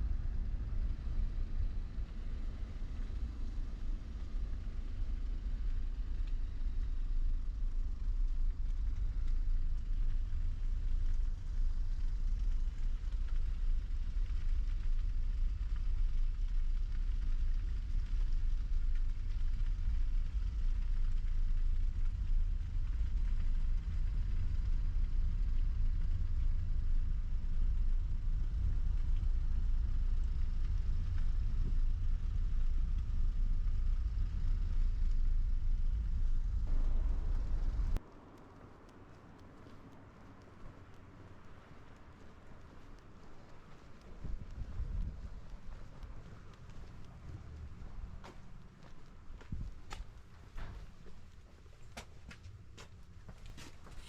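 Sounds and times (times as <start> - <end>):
van engine low rumble: 0.0 - 54.0.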